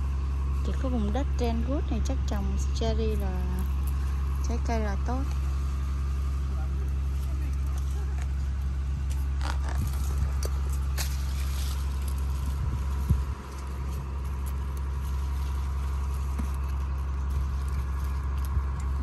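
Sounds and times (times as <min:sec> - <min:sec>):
faint constant whine: 0:00.0 - 0:19.0
low machine rumble: 0:00.0 - 0:19.0
branches and leaves rustling: 0:02.7 - 0:19.0.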